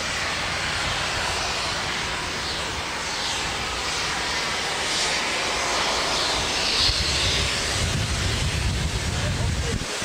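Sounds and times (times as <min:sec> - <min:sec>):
diesel locomotive engine roaring: 0:00.0 - 0:10.0.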